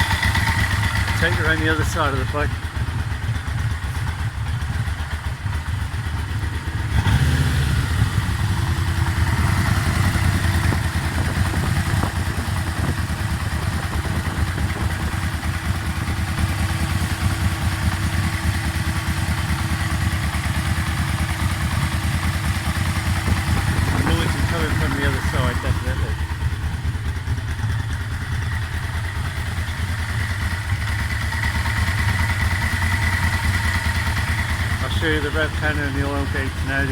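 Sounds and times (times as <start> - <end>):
engine knocking: 0.0 - 36.9
motorcycle engine idling: 0.0 - 36.9.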